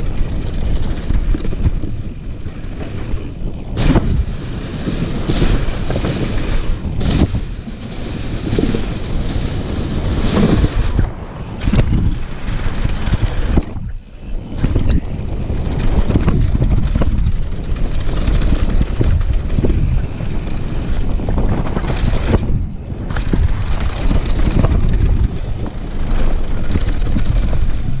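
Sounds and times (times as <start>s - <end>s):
bike tyres rumbling over boards: 0.0s - 28.0s
wind rushing over microphone: 0.0s - 28.0s.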